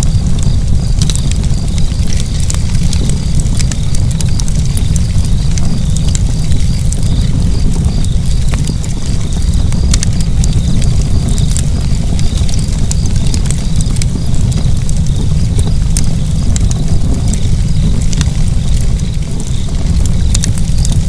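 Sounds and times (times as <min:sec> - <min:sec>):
fire crackles and pops: 0:00.0 - 0:21.0
fire rumbling: 0:00.0 - 0:21.0.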